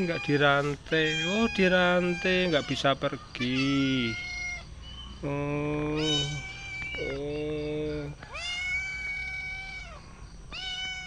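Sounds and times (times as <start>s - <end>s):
cat meowing: 0.0s - 4.7s, 5.9s - 11.0s.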